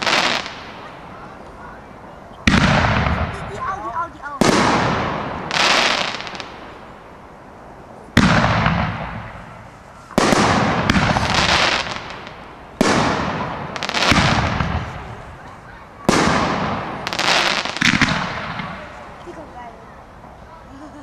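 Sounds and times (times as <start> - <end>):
fireworks bursting bangs: 0.0 - 1.7, 2.4 - 19.2
fireworks crackling: 0.0 - 21.0.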